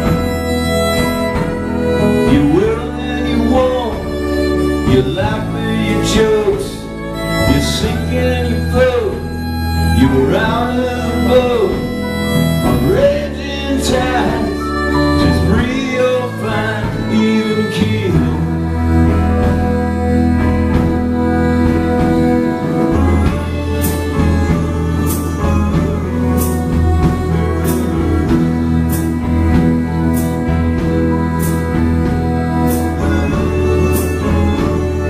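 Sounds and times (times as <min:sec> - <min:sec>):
live band playing: 0:00.0 - 0:35.0.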